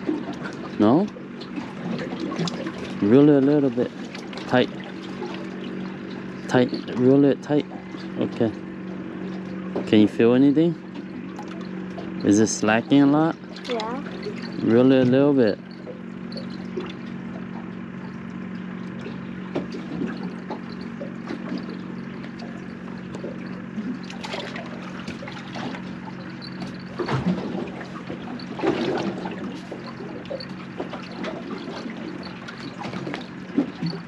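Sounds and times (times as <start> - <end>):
small waves lapping against boat hull: 0.0 - 34.0
steady low hum: 0.0 - 34.0
water splashes: 0.0 - 34.0.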